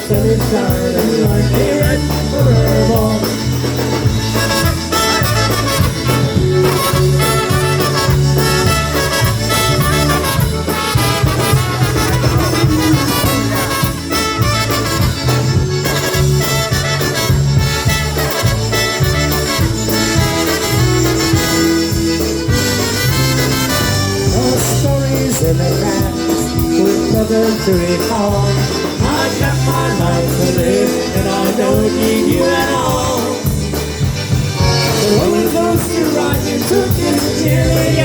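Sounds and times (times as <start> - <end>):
polka band playing: 0.0 - 38.0.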